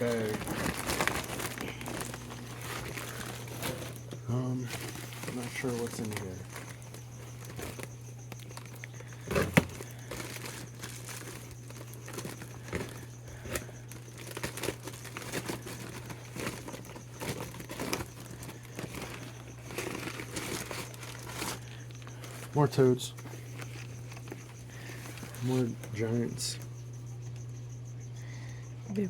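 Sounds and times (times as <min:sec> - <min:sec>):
packaging crinkling and rustling: 0:00.0 - 0:22.6, 0:23.2 - 0:26.0
steady low hum: 0:00.0 - 0:29.0.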